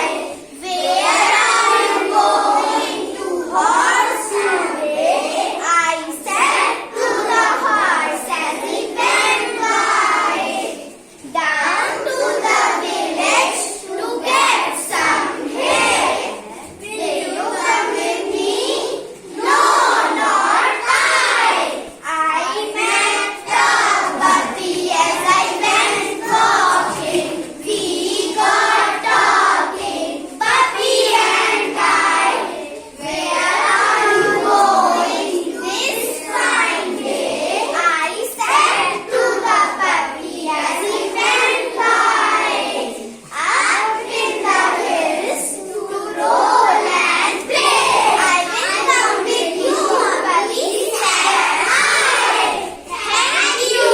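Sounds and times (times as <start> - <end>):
children chanting in chorus: 0.0 - 53.9.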